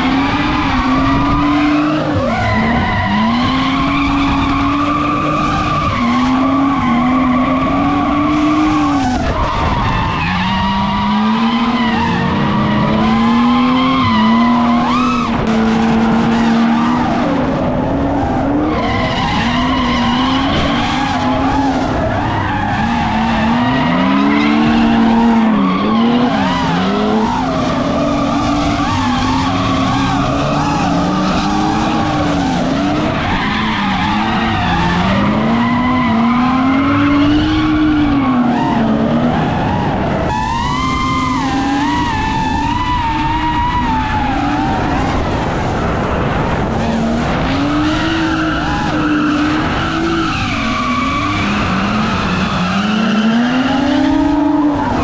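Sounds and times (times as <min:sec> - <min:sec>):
car engine revving: 0:00.0 - 0:55.0
tyres skidding: 0:00.0 - 0:55.0.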